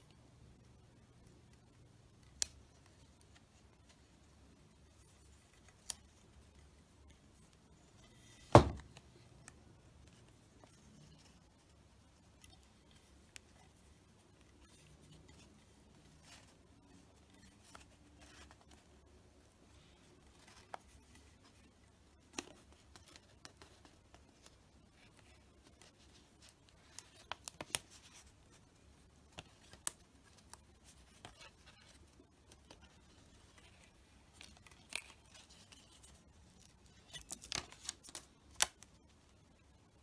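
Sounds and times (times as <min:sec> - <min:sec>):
vinyl film crinkling: 0:01.5 - 0:39.2.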